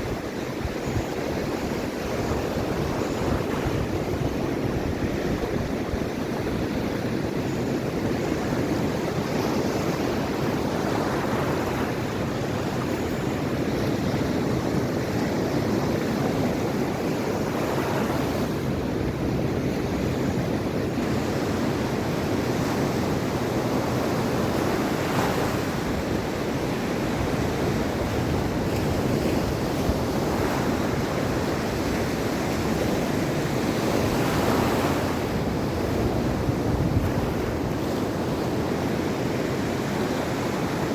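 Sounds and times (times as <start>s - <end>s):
waves washing onto shore: 0.0s - 40.9s
wind noise on microphone: 0.0s - 40.9s.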